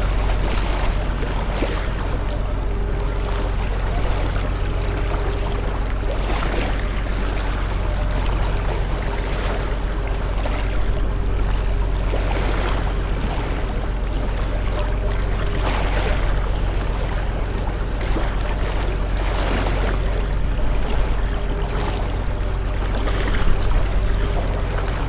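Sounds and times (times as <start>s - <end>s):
motorboat engine running: 0.0s - 25.0s
water splashing against hull: 0.0s - 25.0s.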